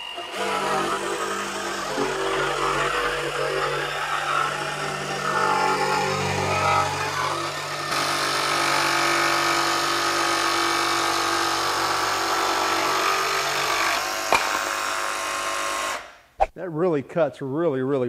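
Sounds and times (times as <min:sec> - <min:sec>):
jigsaw cutting plywood: 0:00.0 - 0:16.1.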